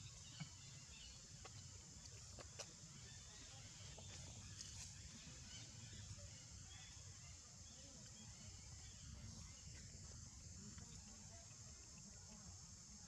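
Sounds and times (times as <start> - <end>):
insects hissing: 0.0 - 13.0.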